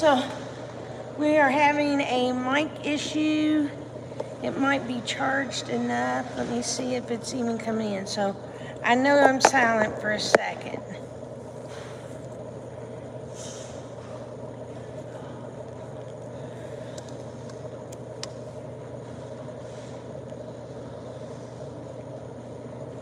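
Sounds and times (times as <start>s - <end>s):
low hum with hiss: 0.0s - 23.0s.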